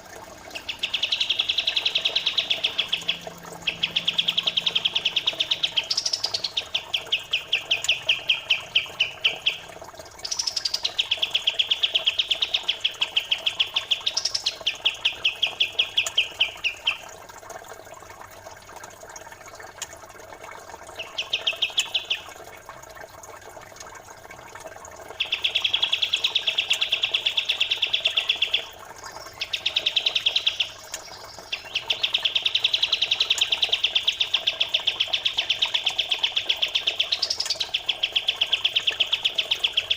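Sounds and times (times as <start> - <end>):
faint running water: 0.0 - 39.9
songbird chattering trills: 0.5 - 17.1, 21.0 - 22.3, 25.1 - 39.9.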